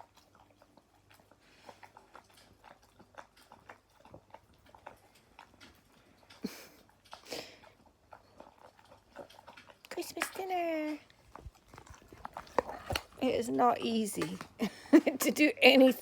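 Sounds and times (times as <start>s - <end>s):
dog chewing with wet clicks: 0.0s - 16.0s.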